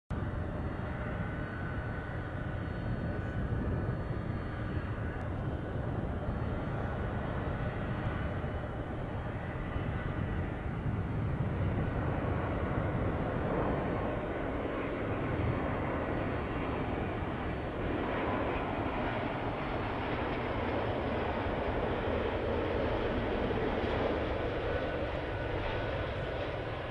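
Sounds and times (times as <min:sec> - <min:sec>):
faint high jet whine: 0:00.1 - 0:26.9
jet airliner rumble: 0:00.1 - 0:26.9.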